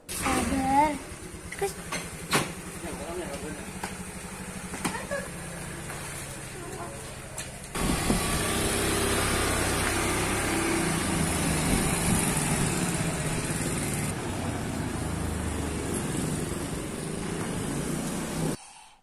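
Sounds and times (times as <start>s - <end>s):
motor scooter engines running: 0.0s - 18.6s.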